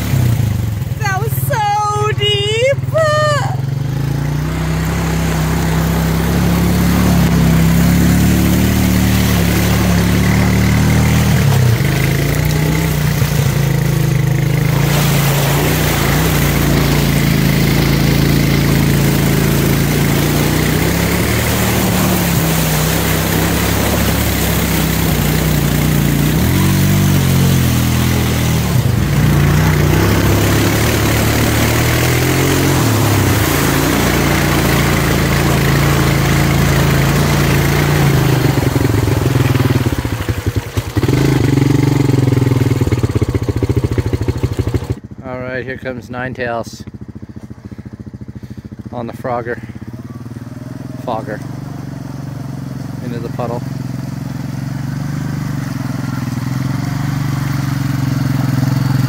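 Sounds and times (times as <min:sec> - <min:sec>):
muddy water splashing: 0:00.0 - 0:45.0, 0:47.6 - 0:59.0
quad engine revving: 0:00.0 - 0:46.6, 0:47.4 - 0:59.0.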